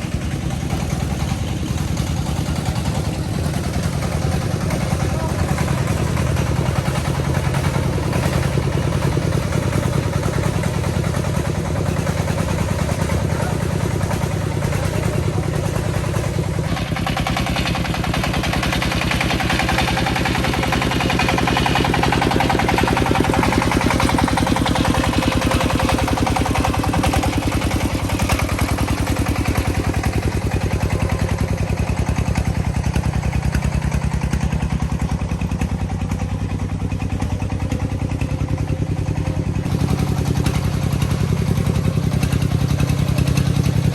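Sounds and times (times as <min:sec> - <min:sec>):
diesel engine clattering: 0:00.0 - 0:43.9.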